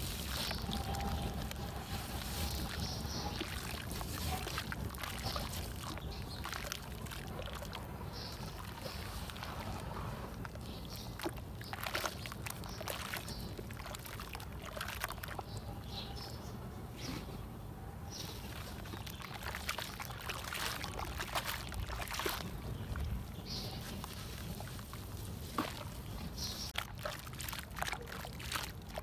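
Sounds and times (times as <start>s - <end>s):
dirt crumbling into water: 0.0s - 15.7s, 18.2s - 29.0s
splashes: 0.0s - 16.3s, 18.1s - 29.0s.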